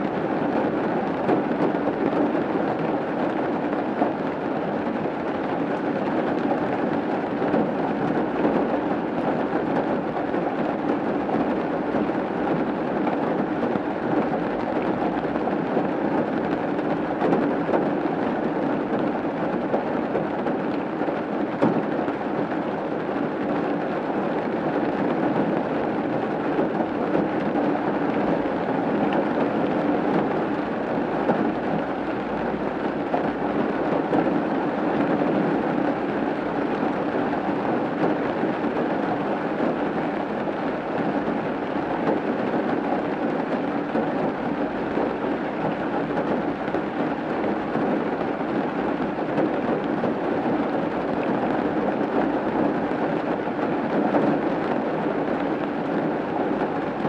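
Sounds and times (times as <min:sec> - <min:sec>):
rain falling on a roof: 0:00.0 - 0:57.0.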